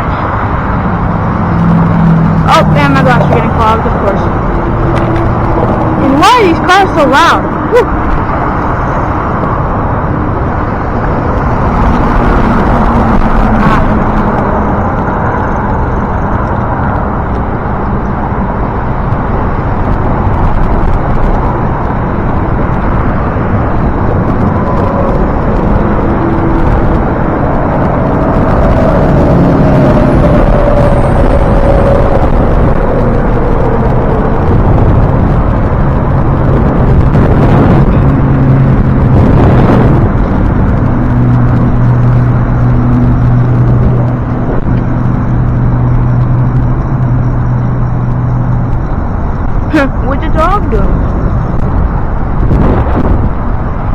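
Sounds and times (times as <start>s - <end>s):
cars passing by: 0.0s - 53.9s
wind rush on microphone: 0.0s - 53.9s.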